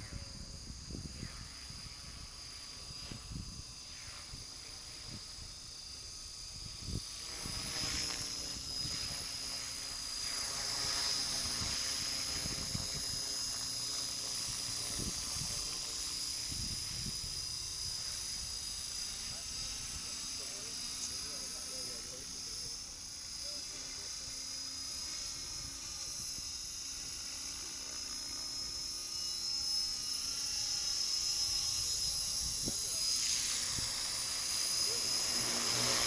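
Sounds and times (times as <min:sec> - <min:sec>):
model helicopter whine: 0:00.0 - 0:36.0.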